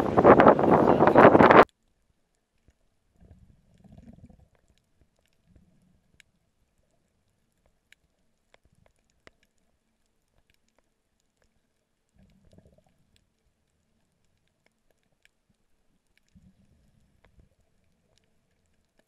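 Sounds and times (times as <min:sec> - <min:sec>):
faint low underwater rumbles: 0:00.0 - 0:19.0
faint clicks: 0:01.6 - 0:19.0.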